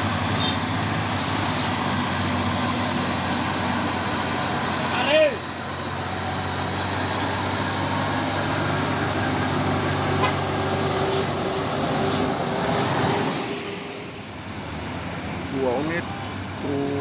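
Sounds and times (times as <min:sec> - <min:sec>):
truck diesel engine running: 0:00.0 - 0:14.6.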